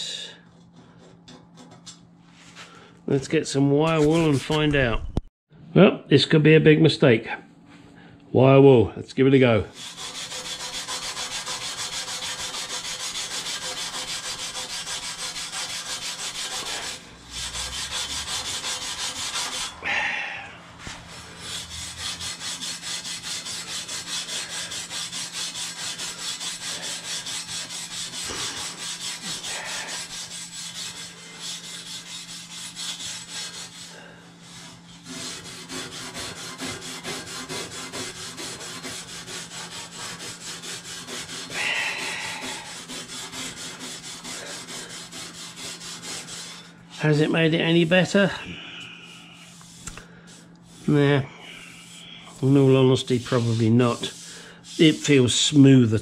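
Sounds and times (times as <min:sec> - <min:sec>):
wire wool scrubbing chrome: 0:09.7 - 0:56.0.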